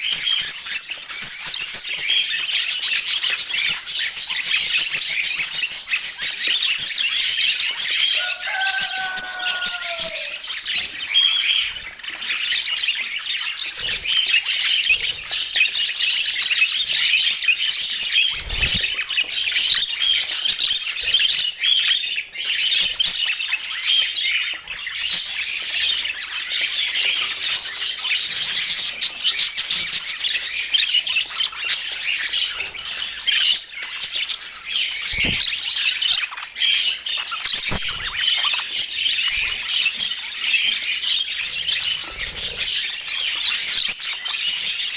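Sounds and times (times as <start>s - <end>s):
budgerigars chattering and warbling: 0.0s - 44.9s.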